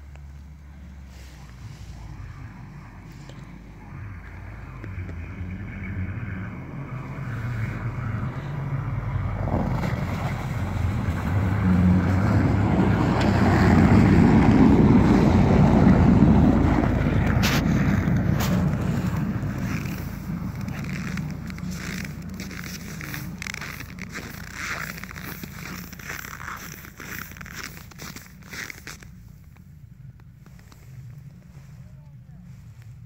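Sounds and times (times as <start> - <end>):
car engine driving past: 0.0 - 29.5.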